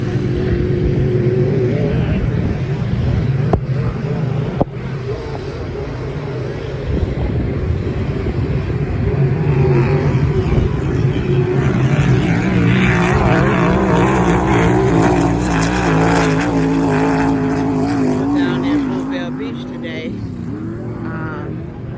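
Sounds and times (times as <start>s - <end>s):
engine running: 0.0s - 21.9s.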